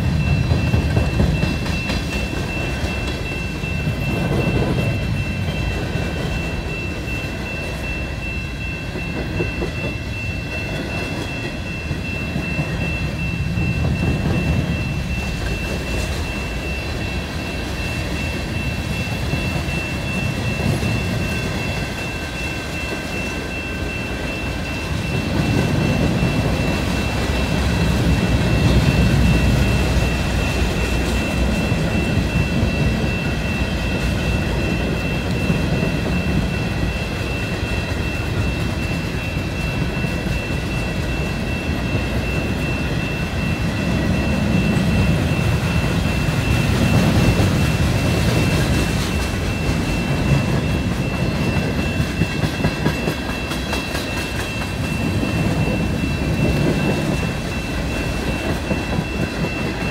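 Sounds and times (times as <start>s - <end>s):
steady high tone: 0.0s - 59.9s
train wheels rumbling on rails: 0.0s - 59.9s.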